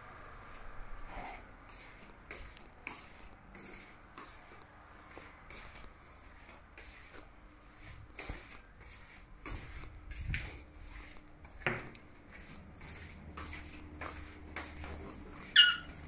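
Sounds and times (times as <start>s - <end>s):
footsteps and handling noise: 0.4s - 16.0s.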